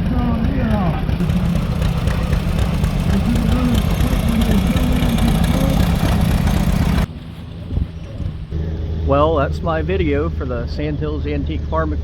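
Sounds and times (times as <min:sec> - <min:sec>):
tractor engine idling: 0:00.0 - 0:11.5.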